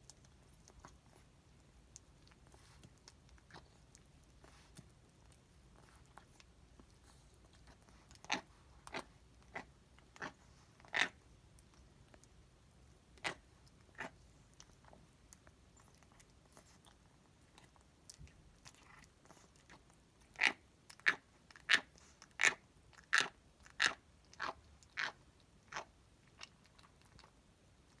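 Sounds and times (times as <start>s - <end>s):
cat chewing with grinding crunches: 0.0s - 28.0s.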